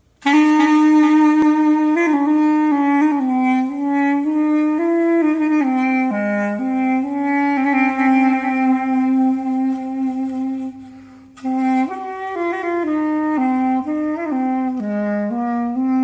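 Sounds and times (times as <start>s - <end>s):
woodwind slow melody: 0.0s - 16.0s.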